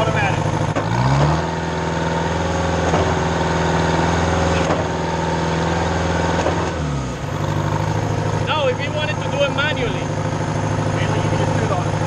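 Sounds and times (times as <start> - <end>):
pump engine running: 0.0 - 12.0.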